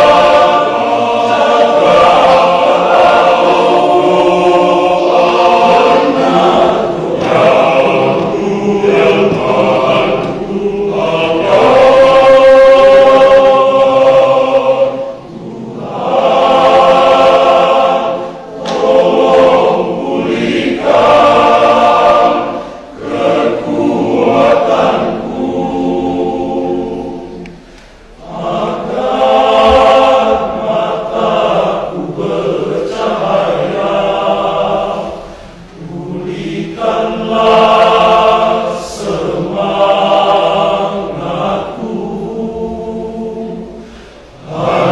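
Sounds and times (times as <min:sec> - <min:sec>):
men's choir singing a hymn: 0:00.0 - 0:44.9.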